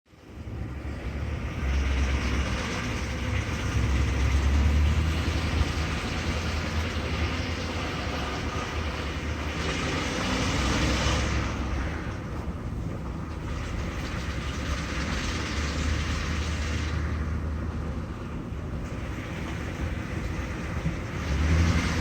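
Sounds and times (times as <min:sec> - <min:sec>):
car engine running with ticking: 0:00.2 - 0:22.0.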